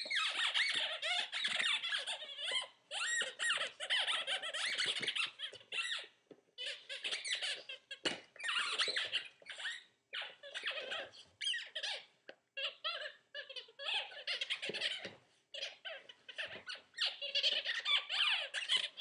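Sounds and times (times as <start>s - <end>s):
squeaky dog toy squeaking: 0.0s - 19.0s.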